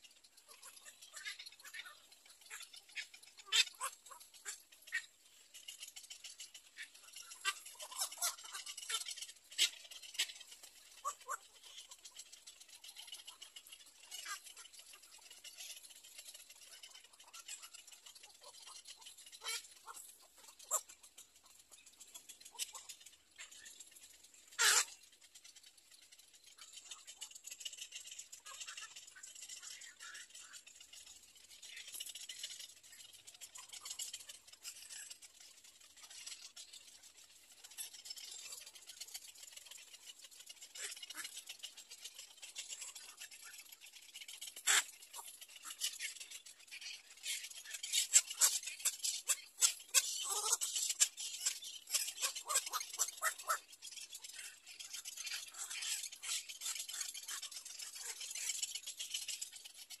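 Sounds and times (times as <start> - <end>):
bird chicks ticking chatter: 0.0 - 60.0.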